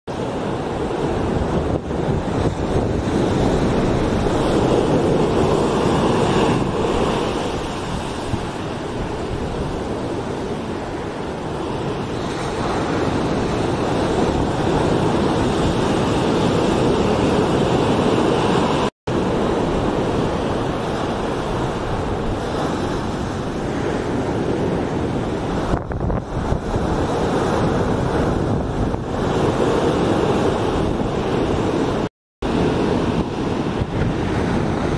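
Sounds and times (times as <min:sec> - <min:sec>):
ocean surf breaking: 0:00.1 - 0:34.9.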